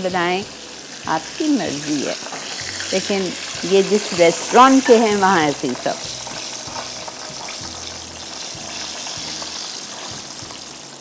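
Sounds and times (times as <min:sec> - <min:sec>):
oil sizzling in frying pan: 0:00.0 - 0:11.0.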